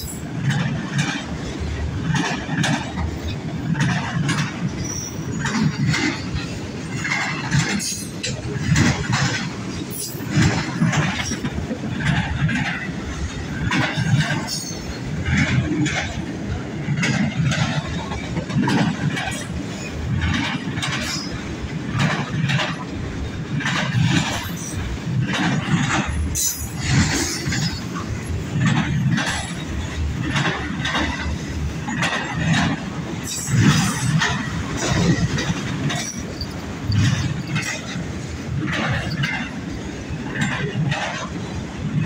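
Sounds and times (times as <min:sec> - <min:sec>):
train low rumble: 0:00.0 - 0:42.0
train wheels clacking over rail joints: 0:00.0 - 0:42.0.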